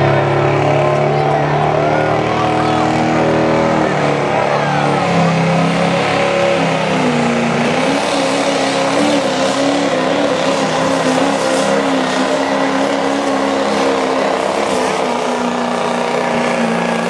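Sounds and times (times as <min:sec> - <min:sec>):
diesel engine at full throttle: 0:00.0 - 0:17.0.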